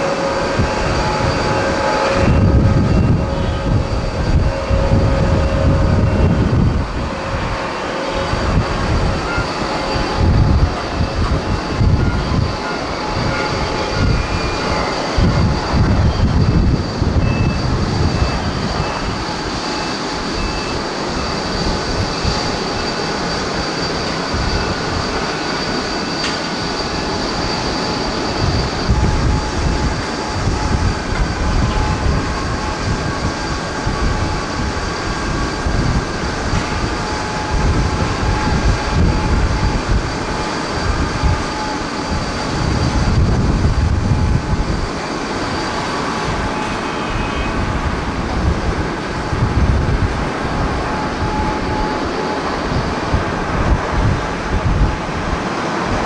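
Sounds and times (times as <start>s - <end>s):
high engine whine: 0.0s - 56.0s
jet engines running: 0.0s - 56.0s
wind buffeting microphone: 0.0s - 56.0s.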